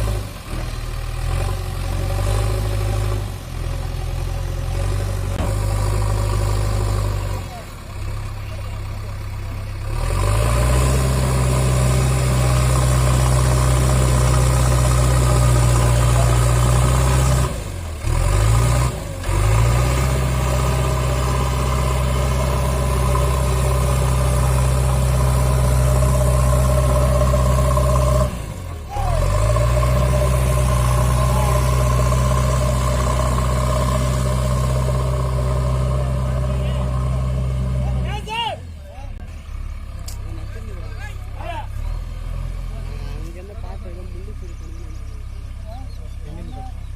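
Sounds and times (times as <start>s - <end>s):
diesel engine revving hard: 0.0s - 46.9s.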